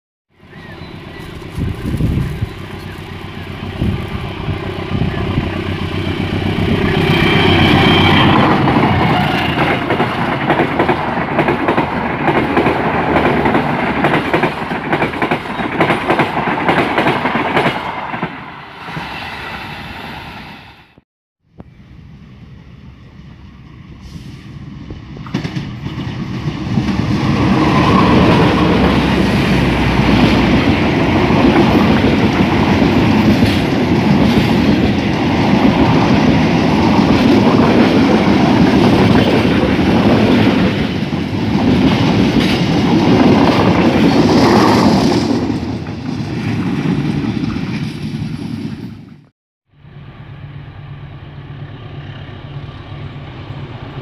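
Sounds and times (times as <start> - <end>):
passenger train passing: 0.4 - 21.0, 21.6 - 54.0.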